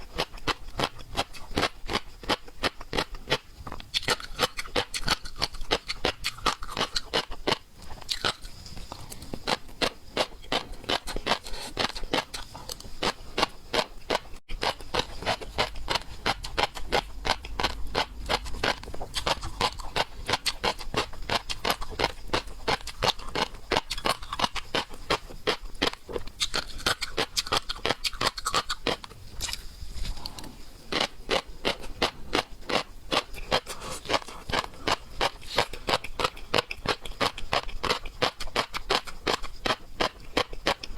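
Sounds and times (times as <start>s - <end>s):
chewing and crunching seafood: 0.0s - 40.9s.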